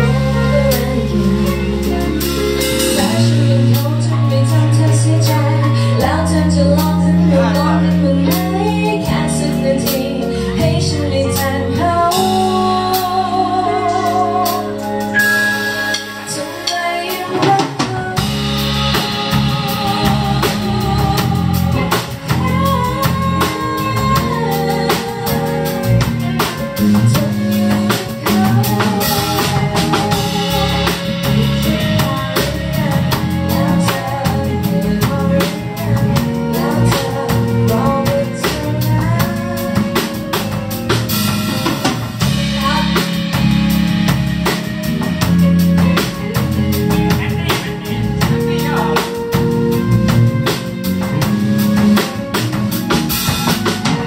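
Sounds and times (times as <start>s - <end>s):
drum kit beat with rimshots: 0.0s - 54.0s
pop band playing: 0.0s - 54.0s
wavering melodic lead line: 0.0s - 54.0s.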